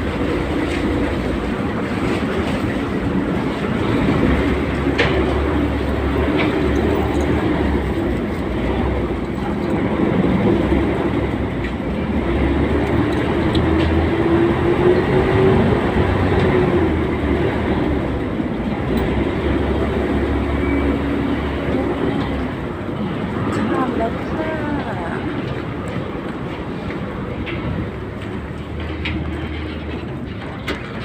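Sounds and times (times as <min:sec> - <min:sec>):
ferry engine rumble: 0:00.0 - 0:31.0.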